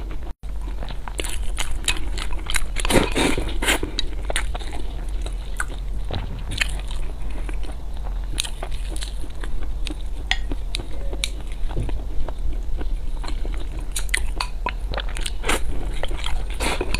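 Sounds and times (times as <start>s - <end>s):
crunchy chewing of food: 0.0s - 16.9s.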